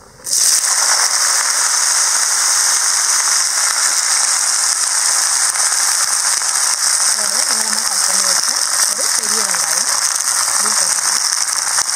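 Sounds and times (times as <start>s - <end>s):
okra sizzling in hot oil: 0.2s - 11.9s.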